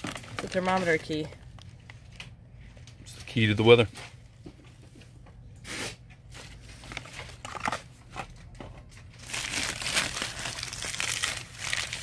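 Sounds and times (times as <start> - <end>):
paper crinkling and rustling: 0.0 - 4.2, 6.3 - 12.0.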